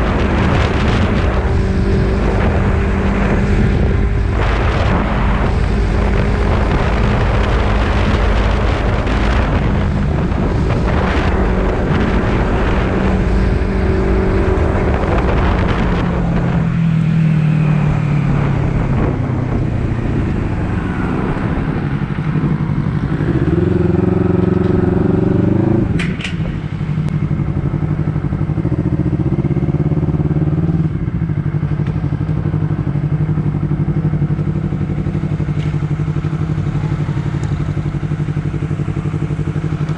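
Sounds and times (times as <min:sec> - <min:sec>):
motorcycle engine revving: 0:00.0 - 0:39.9
rushing wind noise: 0:00.0 - 0:39.9.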